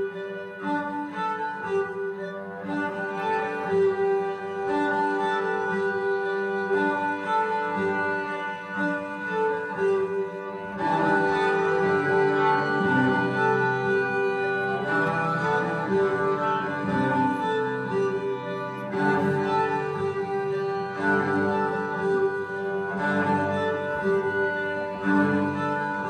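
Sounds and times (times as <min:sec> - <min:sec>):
string instruments playing long notes: 0:00.0 - 0:26.0.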